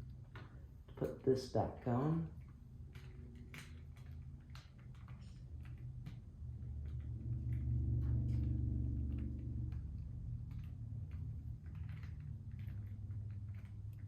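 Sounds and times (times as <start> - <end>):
low hum: 2.2 - 14.0.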